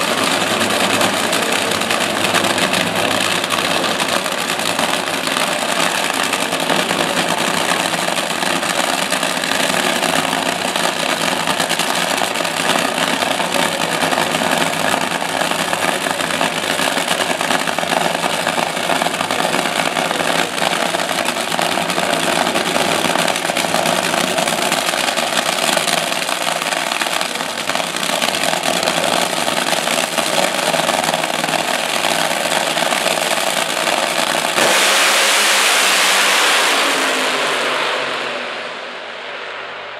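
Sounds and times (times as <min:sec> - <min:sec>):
drag racing engines idling: 0:00.0 - 0:39.9.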